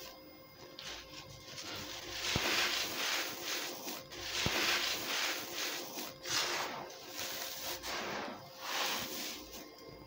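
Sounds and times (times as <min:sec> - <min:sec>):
grit pattering onto sand: 0:00.8 - 0:09.5.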